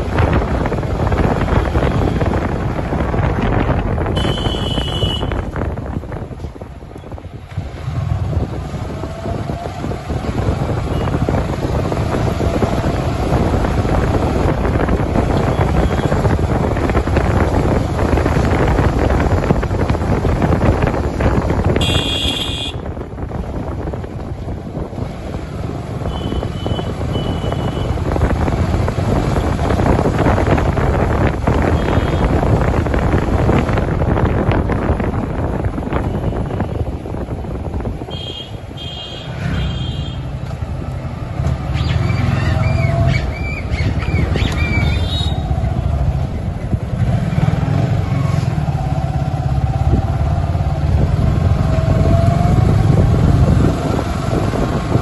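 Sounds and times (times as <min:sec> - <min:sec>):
wind buffeting microphone: 0:00.0 - 0:38.8, 0:40.3 - 0:55.0
motorcycle engine: 0:00.0 - 0:55.0.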